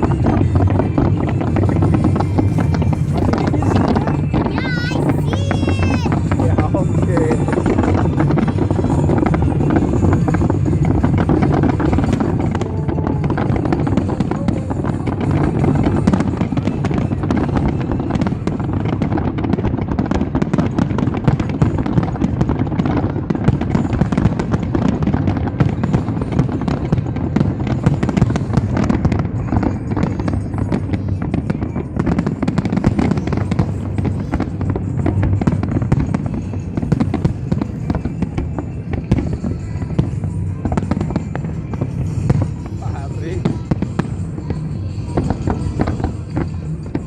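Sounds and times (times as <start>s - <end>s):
fireworks bangs and crackles: 0.0s - 47.0s.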